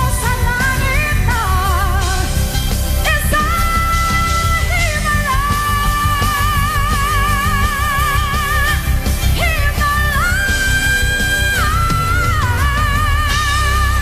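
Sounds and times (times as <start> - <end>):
live pop-rock band: 0.0 - 14.0.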